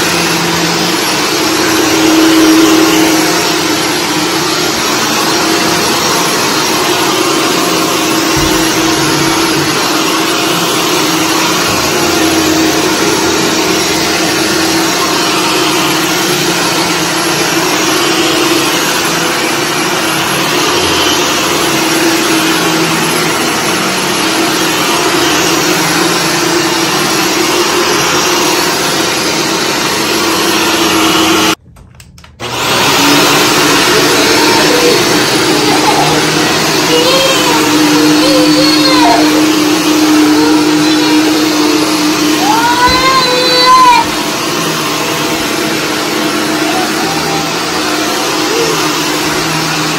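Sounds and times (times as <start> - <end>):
vacuum cleaner running on carpet: 0.0 - 31.6, 32.4 - 49.9.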